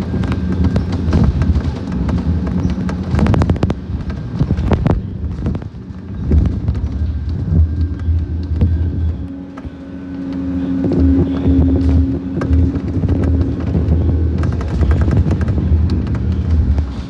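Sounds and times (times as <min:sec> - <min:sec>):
bus diesel engine: 0:00.0 - 0:17.0
rattles and clicks in bus interior: 0:00.0 - 0:17.0
steady whine: 0:00.0 - 0:17.0.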